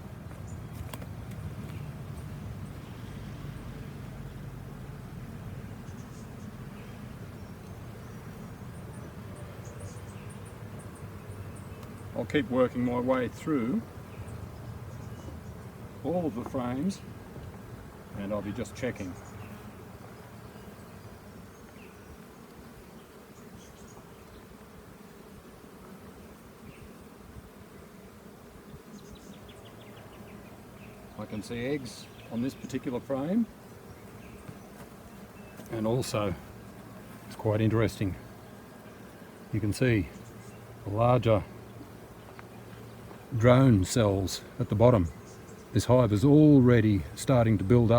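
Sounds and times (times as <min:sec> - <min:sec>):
bees buzzing: 0:00.0 - 0:47.9
honeybees humming: 0:00.0 - 0:47.9.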